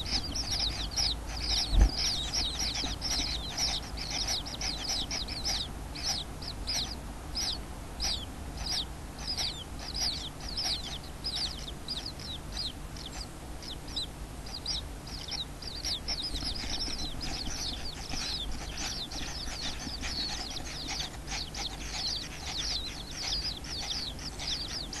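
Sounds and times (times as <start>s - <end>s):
kingfisher chicks calling: 0.0s - 25.0s
steady low hum: 0.0s - 25.0s.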